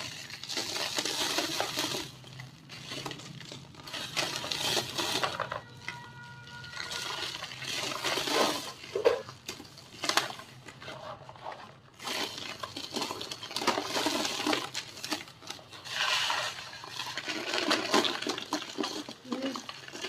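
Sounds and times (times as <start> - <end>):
cement shapes crumbling and crunching: 0.0 - 20.0.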